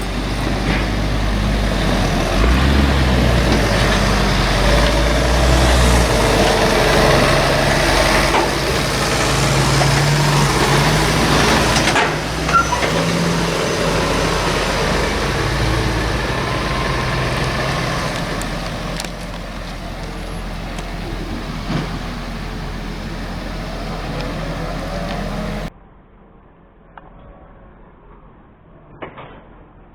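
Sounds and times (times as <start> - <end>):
road noise: 0.0 - 25.7
vehicle engine running: 0.0 - 25.7.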